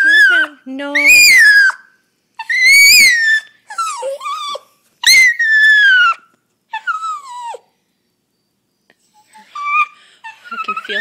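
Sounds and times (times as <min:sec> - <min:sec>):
dog whining cries: 0:00.0 - 0:07.8, 0:09.0 - 0:11.0.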